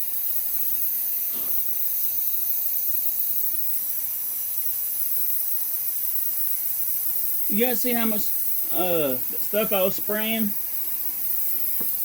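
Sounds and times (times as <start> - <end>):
compressed air hissing: 0.0 - 12.0.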